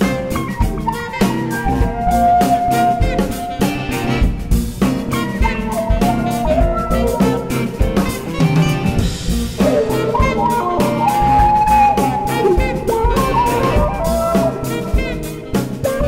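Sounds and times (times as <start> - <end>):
drum kit: 0.0 - 16.0
jazz band playing: 0.0 - 16.0.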